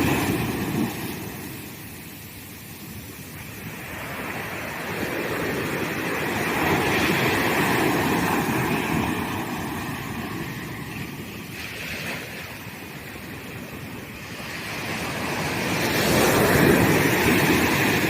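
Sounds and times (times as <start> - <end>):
ocean surf on a beach: 0.0 - 18.0.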